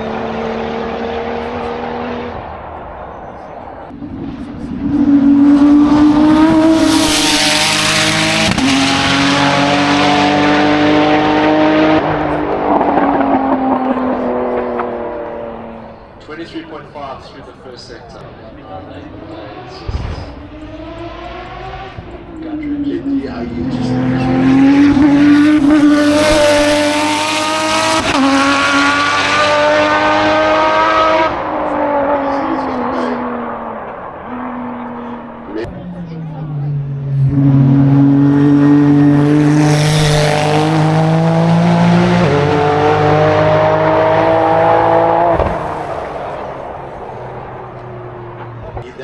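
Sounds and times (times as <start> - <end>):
race car accelerating: 0.0 - 49.0
gear change: 3.7 - 16.1, 18.9 - 49.0.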